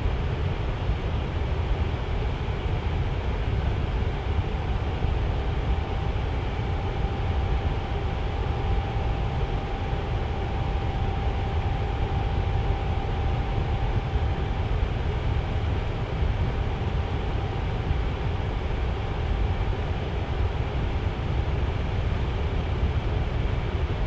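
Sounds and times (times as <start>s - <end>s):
fan air rushing: 0.0s - 24.0s.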